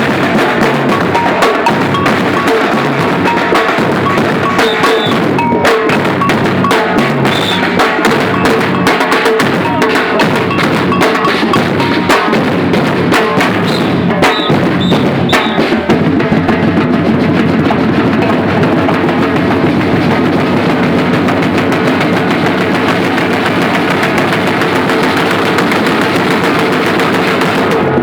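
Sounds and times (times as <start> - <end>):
rapid snare drum strokes: 0.0 - 28.0
samba drum ensemble: 0.0 - 28.0.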